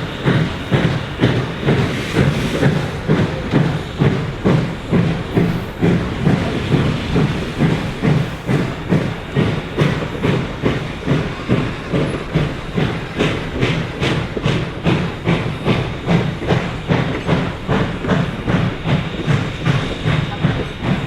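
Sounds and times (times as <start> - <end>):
steam hissing: 0.0 - 21.0
steam locomotive exhaust chuffs: 0.0 - 21.0.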